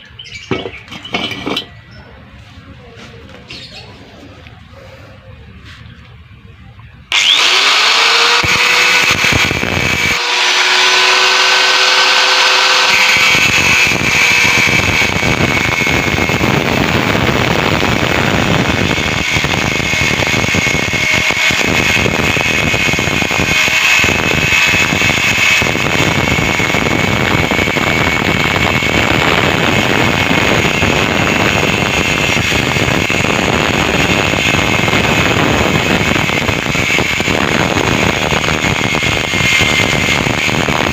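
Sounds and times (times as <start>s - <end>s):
angle grinder cutting metal: 7.1s - 40.9s.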